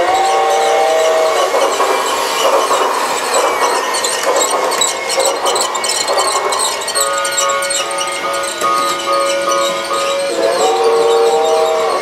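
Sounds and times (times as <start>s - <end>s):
toy train rattling on track: 0.0s - 12.0s.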